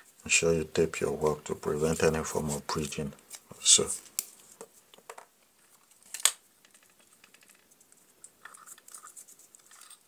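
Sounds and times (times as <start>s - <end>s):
handling noises ticks and rustles: 1.2s - 10.0s.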